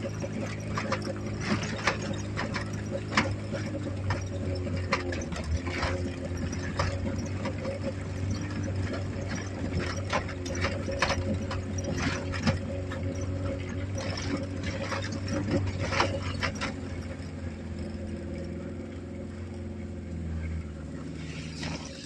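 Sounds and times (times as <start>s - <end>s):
car engine with rough exhaust: 0.0s - 22.0s
car knocks and rattles: 0.0s - 22.0s.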